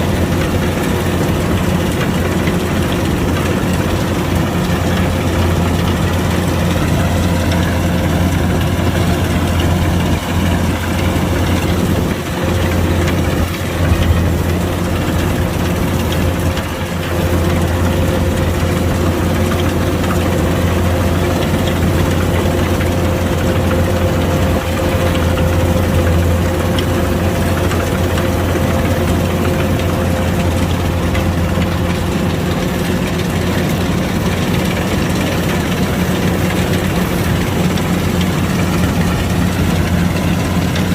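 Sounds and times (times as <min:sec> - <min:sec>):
combine harvester engine droning: 0:00.0 - 0:40.9.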